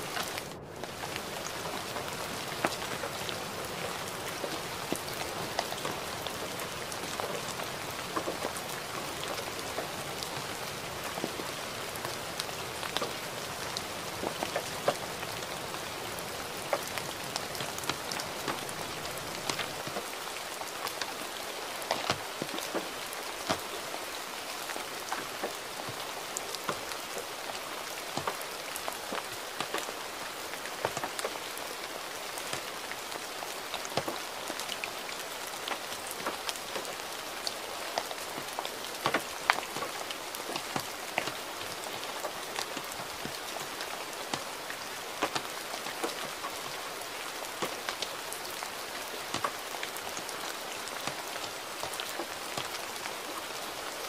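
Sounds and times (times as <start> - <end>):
gentle rain hiss: 0.0 - 54.0
raindrops tapping: 0.0 - 54.0.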